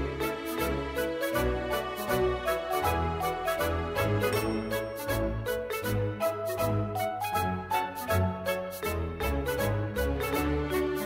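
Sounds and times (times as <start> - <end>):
light instrumental music with beat: 0.0 - 11.0.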